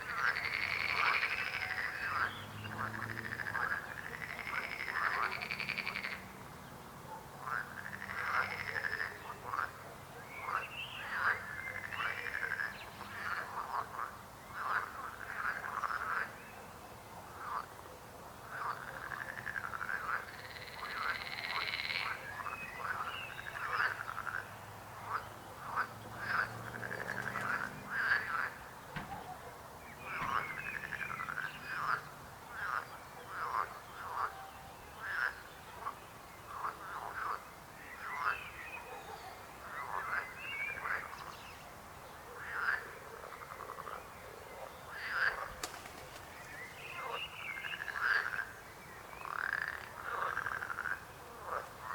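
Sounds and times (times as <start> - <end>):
frogs croaking: 0.0 - 51.9.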